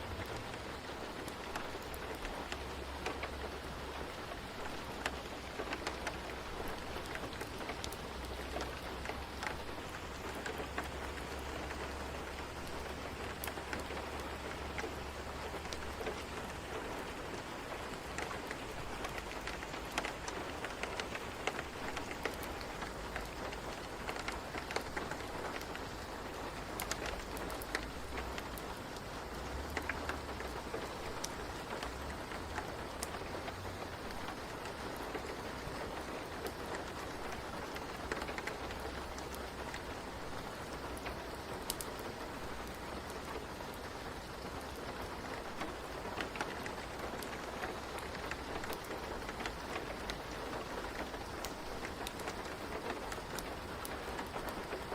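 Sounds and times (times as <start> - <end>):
rain hiss: 0.0 - 54.9
raindrops ticking: 0.0 - 54.9.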